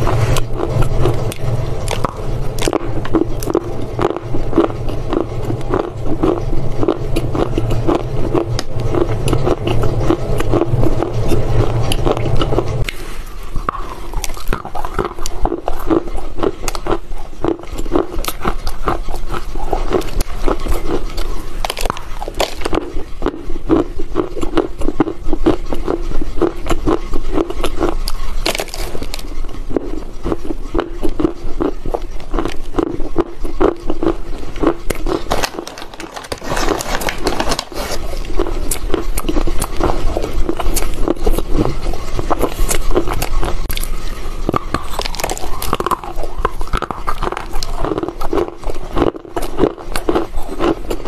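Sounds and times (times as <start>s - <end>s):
crunching of dry clay being chewed: 0.0s - 51.0s
steady low hum: 0.0s - 51.0s.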